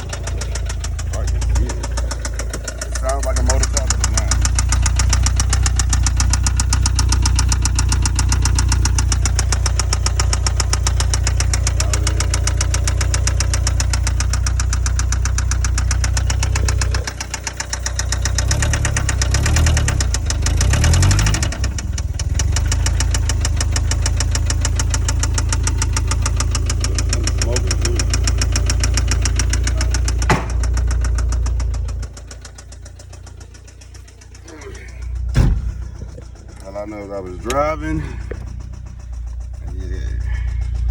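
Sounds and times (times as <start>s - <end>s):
car engine idling and revving: 0.0s - 40.9s
rapid engine tapping: 0.0s - 40.9s.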